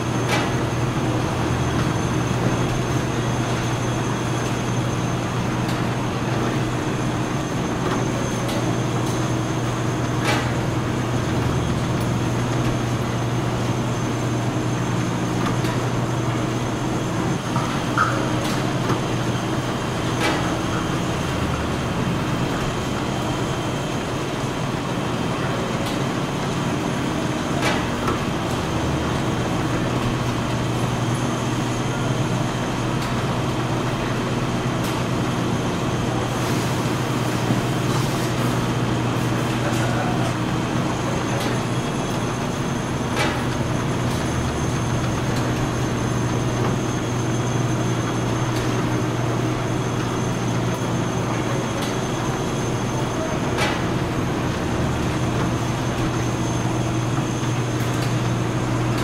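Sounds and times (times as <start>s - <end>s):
machine hum and rattle: 0.0s - 59.0s.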